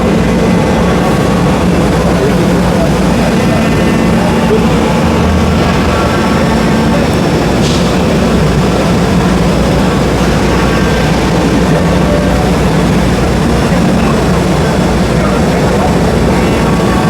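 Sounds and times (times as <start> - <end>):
cnc router machining: 0.0 - 17.0
machine din of exhibition hall: 0.0 - 17.0.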